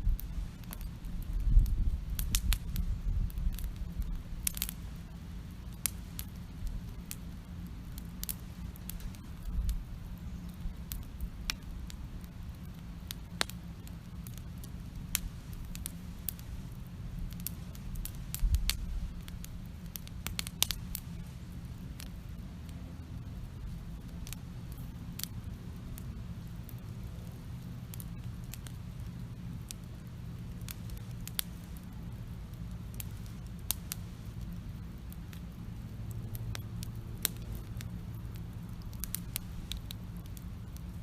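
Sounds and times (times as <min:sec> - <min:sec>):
campfire crackling and popping: 0:00.0 - 0:41.0
low steady rumble: 0:00.0 - 0:41.0.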